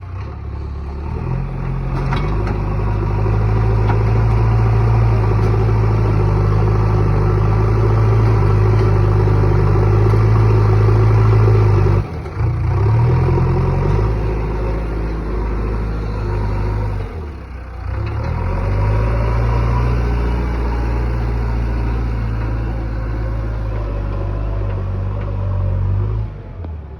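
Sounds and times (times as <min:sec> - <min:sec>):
excavator diesel engine under load: 0:00.0 - 0:26.9.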